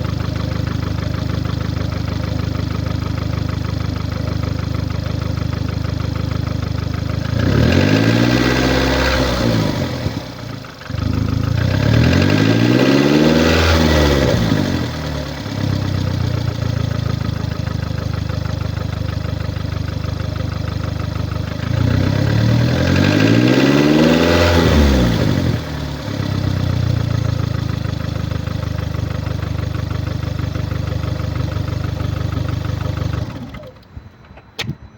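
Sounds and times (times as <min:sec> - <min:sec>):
car engine idling and revving: 0:00.0 - 0:34.7.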